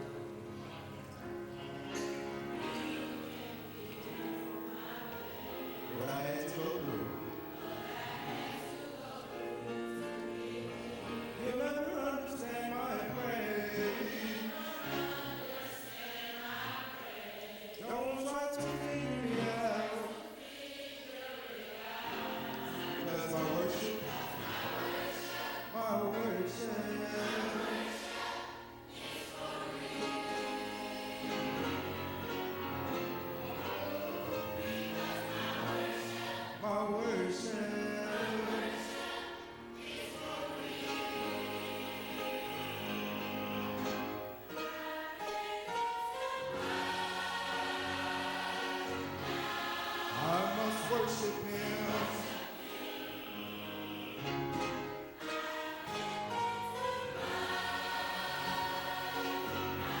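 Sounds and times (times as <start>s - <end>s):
choir singing: 0.0s - 60.0s
gospel band playing: 0.0s - 60.0s.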